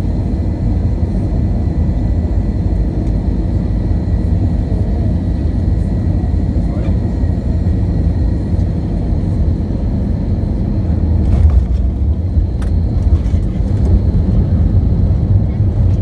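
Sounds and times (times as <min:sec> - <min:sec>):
airliner engines and wheels rumbling: 0:00.0 - 0:16.0.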